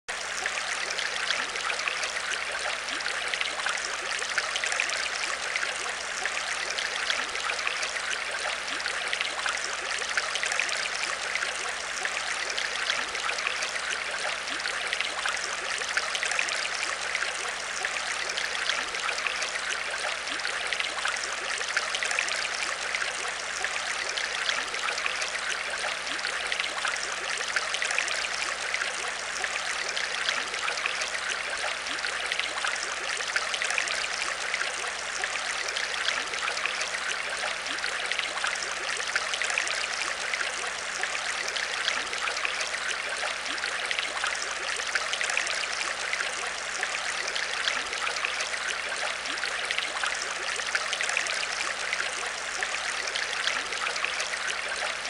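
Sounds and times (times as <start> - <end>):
aquarium water trickling: 0.1 - 55.0.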